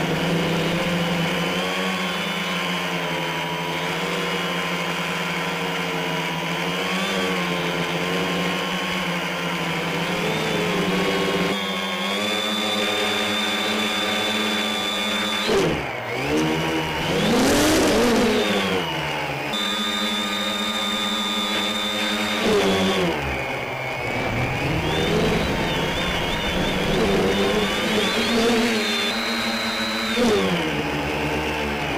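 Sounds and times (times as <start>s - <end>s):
quadcopter motors whining: 0.0s - 31.9s.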